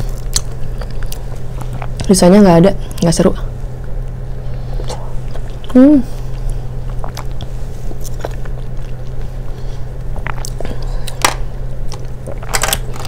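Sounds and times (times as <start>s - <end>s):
steady low hum: 0.0s - 13.0s
chewing with wet mouth sounds: 0.1s - 2.1s, 4.5s - 13.0s.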